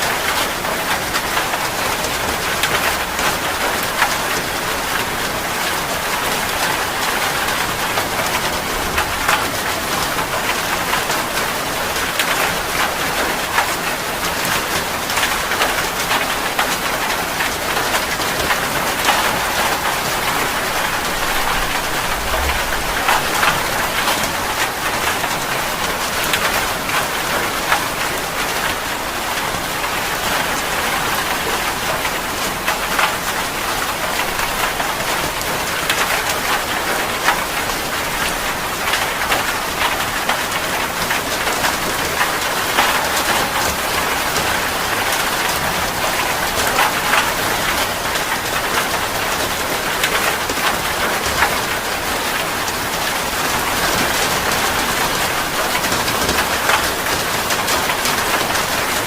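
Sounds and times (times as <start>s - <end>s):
steady rain hiss: 0.0s - 59.0s
raindrops ticking on a surface: 0.1s - 59.0s.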